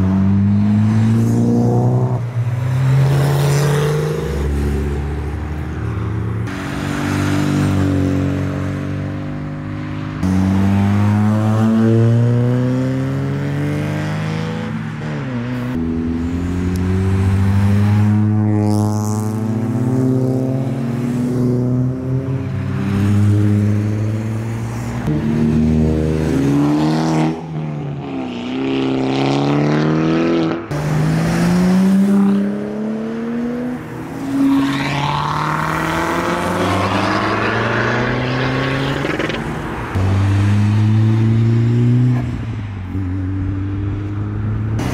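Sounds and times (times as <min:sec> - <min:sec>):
car engines accelerating: 0:00.0 - 0:44.9.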